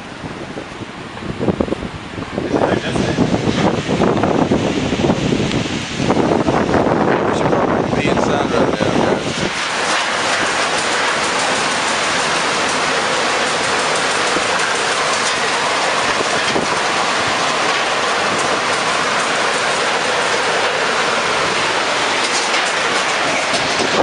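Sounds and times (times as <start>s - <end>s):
storm wind and rain roaring: 0.0s - 24.0s.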